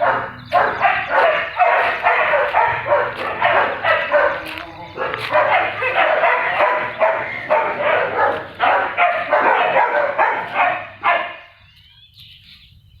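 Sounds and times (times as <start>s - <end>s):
dogs barking: 0.0s - 11.6s.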